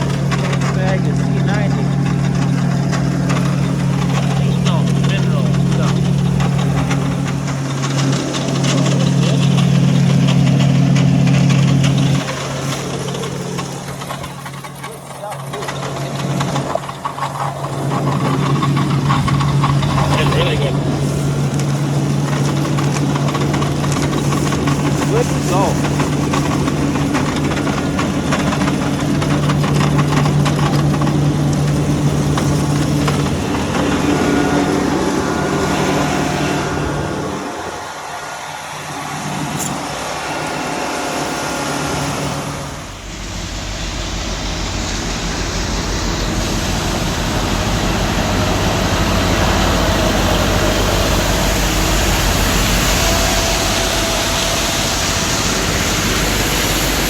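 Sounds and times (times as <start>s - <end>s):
rushing machine noise with rumble: 0.0s - 57.0s
tractor engine grinding grain: 0.0s - 57.0s.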